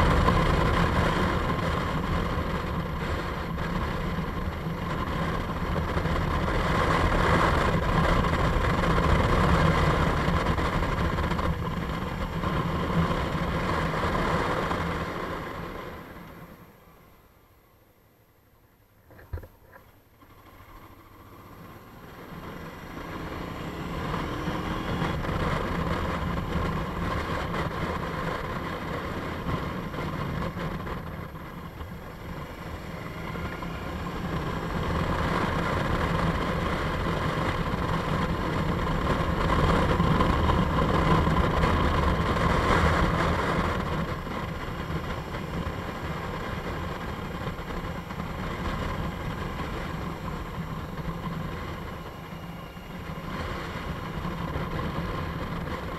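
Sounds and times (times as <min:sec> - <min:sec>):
motorcycle engine running: 0:00.0 - 0:16.8, 0:19.0 - 0:55.9.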